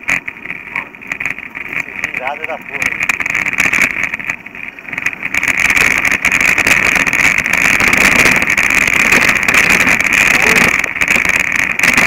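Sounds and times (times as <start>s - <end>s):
bike rattling and clicking: 0.0s - 12.0s
wind rush on microphone: 0.0s - 12.0s.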